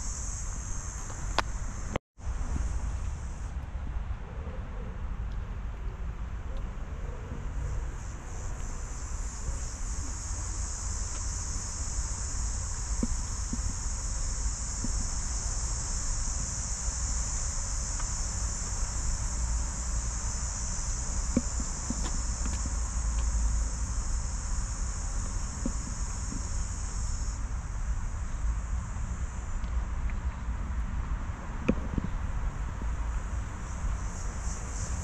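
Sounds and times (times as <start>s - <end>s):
high-pitched insect chorus: 0.0s - 3.5s, 7.4s - 35.0s.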